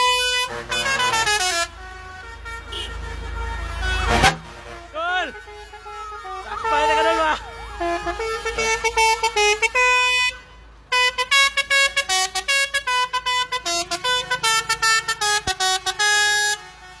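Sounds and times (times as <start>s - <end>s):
truck musical air horn: 0.0s - 17.0s.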